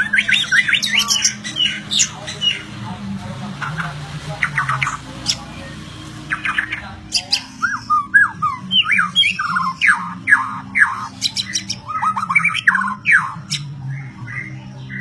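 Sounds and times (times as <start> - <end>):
bird singing whistled notes: 0.0 - 2.7, 4.4 - 15.0.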